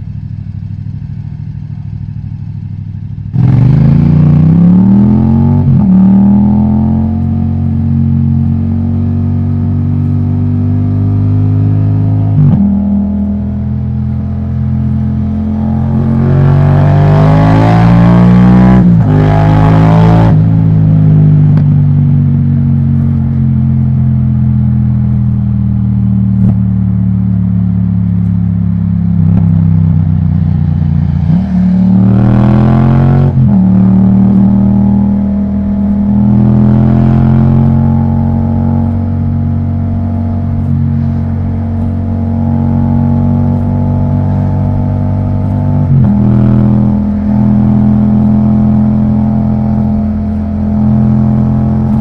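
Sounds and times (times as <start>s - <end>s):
motorcycle engine revving: 1.6s - 52.0s.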